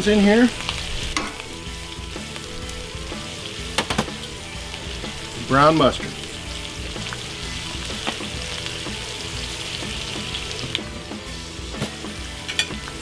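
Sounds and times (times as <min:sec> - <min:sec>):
onions sizzling on a griddle: 0:00.0 - 0:13.0.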